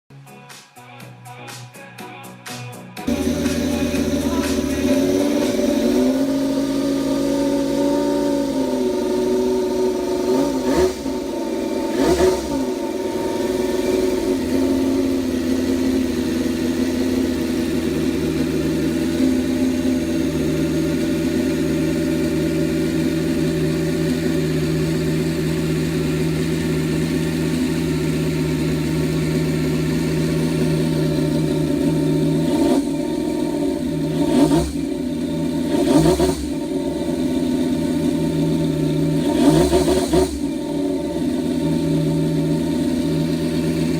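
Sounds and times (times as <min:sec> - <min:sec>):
engine throttle blips: 0:03.1 - 0:43.9
small engine running: 0:03.1 - 0:43.9.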